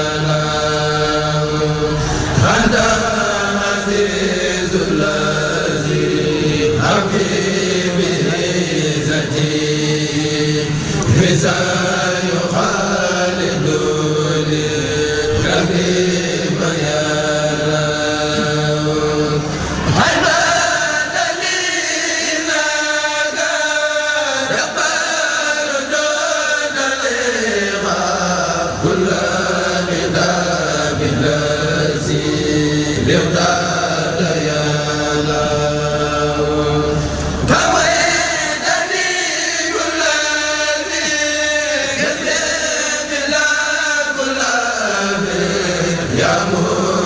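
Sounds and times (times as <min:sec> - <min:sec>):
voices chanting devotional poem: 0:00.0 - 0:47.0.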